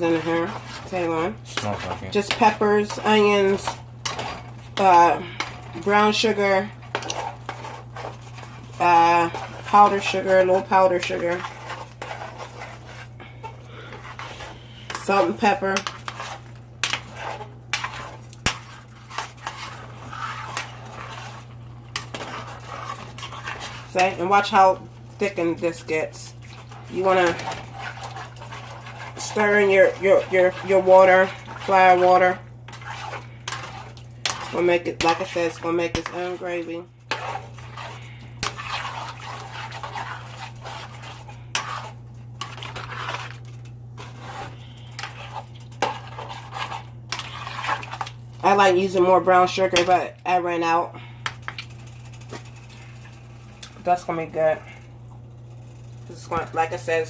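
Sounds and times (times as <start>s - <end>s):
spoon stirring gravy in a pan: 0.0s - 54.0s
steady low hum: 0.0s - 57.0s.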